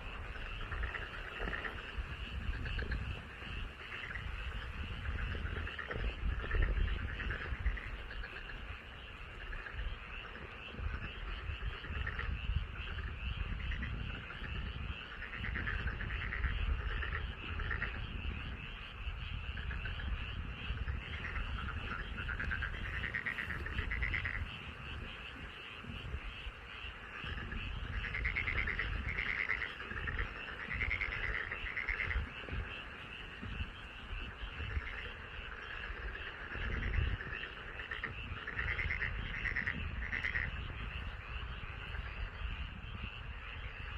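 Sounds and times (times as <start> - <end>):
frogs croaking: 0.0 - 43.9.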